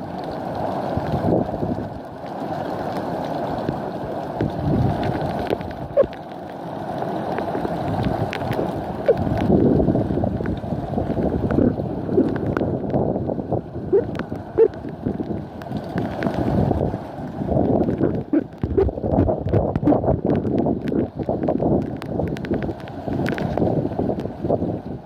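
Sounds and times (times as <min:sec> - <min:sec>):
wind buffeting microphone: 0:00.9 - 0:02.0, 0:04.4 - 0:06.2, 0:07.6 - 0:25.0.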